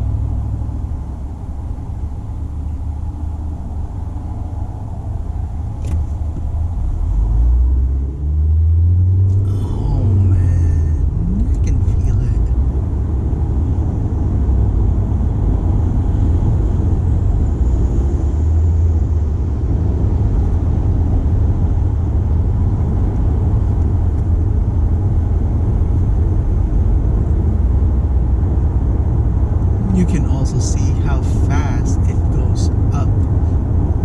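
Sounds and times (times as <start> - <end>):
car driving road and engine noise: 0.0 - 34.0.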